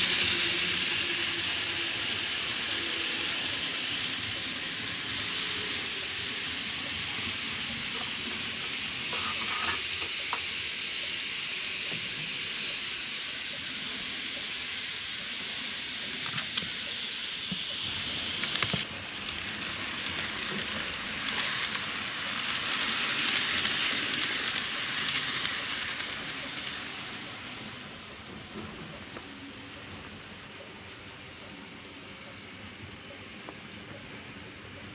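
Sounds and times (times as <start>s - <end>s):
model trains whirring: 0.0s - 34.9s.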